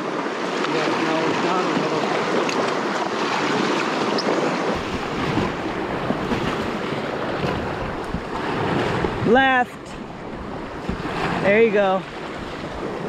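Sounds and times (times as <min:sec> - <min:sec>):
whitewater rushing: 0:00.0 - 0:13.0
wind rumble on microphone: 0:01.1 - 0:13.0.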